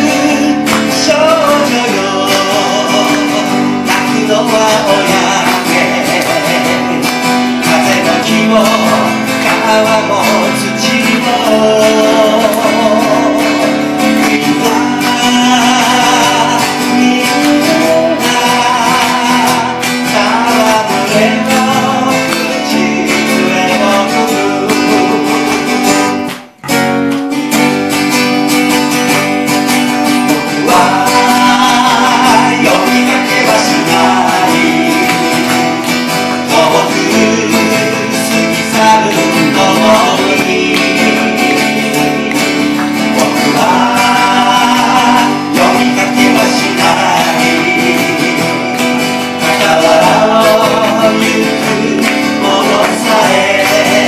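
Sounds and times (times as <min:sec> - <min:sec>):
men singing: 0:00.0 - 0:26.2, 0:30.0 - 0:54.0
acoustic guitars fingerpicked: 0:00.0 - 0:54.0.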